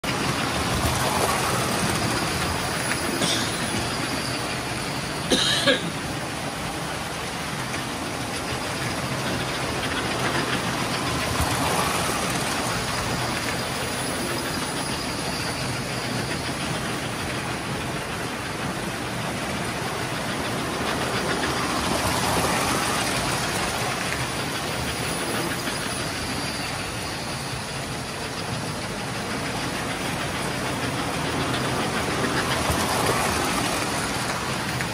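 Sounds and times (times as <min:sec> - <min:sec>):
model trains clattering on track: 0:00.0 - 0:34.9.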